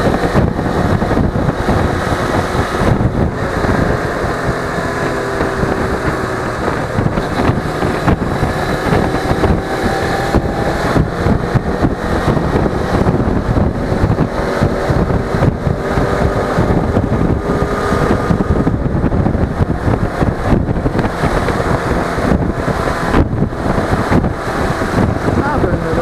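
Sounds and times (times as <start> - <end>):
motorcycle engine hum: 0.0 - 26.0
wind buffeting microphone: 0.0 - 26.0.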